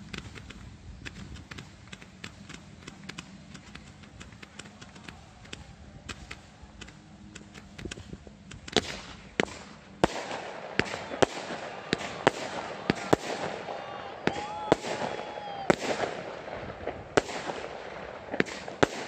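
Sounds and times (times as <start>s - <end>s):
fireworks bangs: 0.0s - 19.0s
fireworks crackling and popping: 0.0s - 19.0s.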